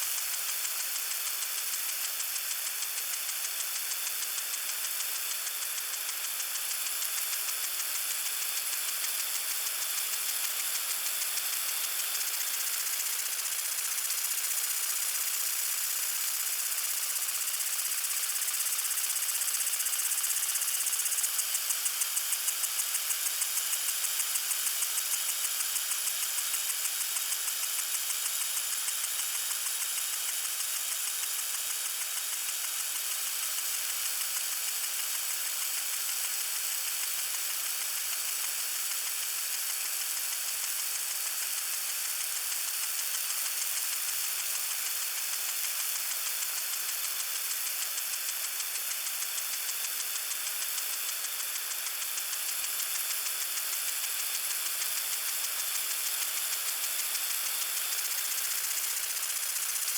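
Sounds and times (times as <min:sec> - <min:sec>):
lawn sprinkler spraying water: 0:00.0 - 0:59.9
sprinkler rapid ticking: 0:00.1 - 0:59.9.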